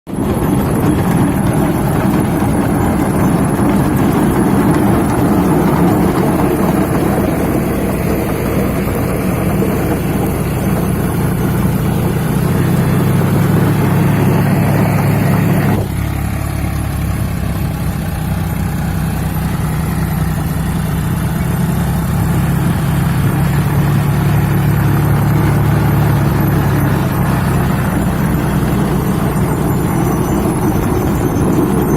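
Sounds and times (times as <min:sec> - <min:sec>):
tractor diesel engine running: 0:00.0 - 0:31.9
higher-pitched engine noise: 0:00.1 - 0:31.9.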